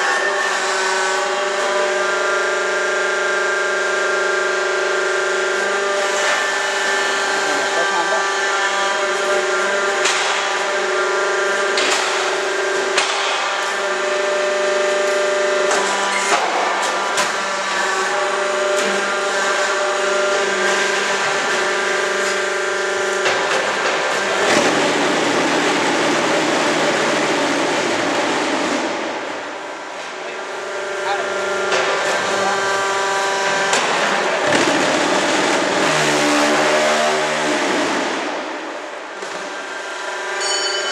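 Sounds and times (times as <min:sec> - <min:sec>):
harsh buzz with low hum: 0:00.0 - 0:40.9
hydraulic machine whine: 0:00.0 - 0:40.9.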